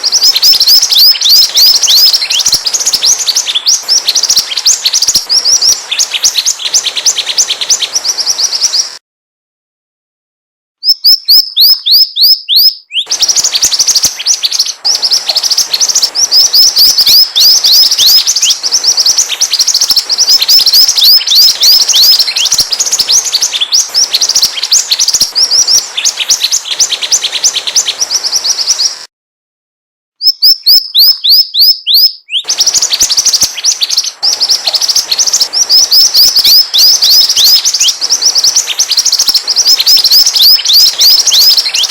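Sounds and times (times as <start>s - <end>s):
bird song with downward chirps: 0.0s - 9.0s, 10.8s - 29.1s, 30.2s - 41.9s.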